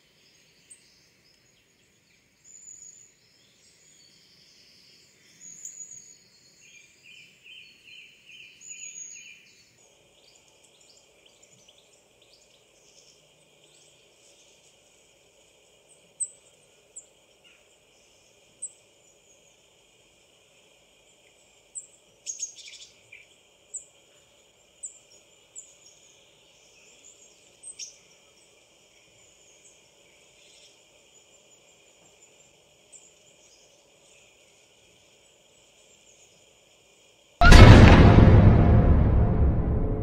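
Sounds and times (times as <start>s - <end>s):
outdoor background hiss: 0.0s - 37.4s.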